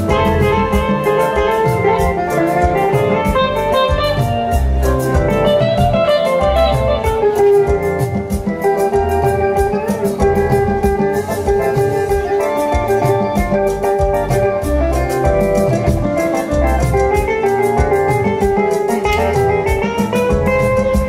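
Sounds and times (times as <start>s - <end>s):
bass: 0.0s - 18.4s, 19.1s - 21.0s
drum beat with cymbals: 0.0s - 21.0s
electric guitar lead: 0.0s - 21.0s.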